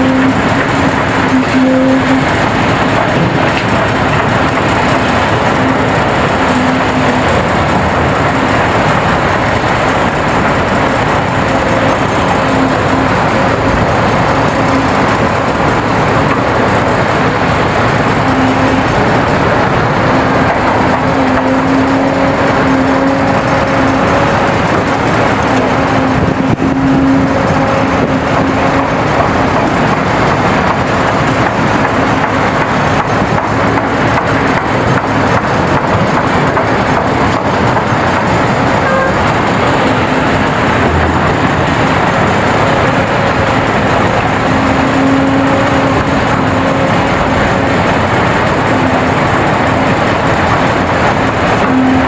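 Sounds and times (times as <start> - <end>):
excavator diesel engine: 0.0 - 52.0
pitched hum: 0.0 - 52.0.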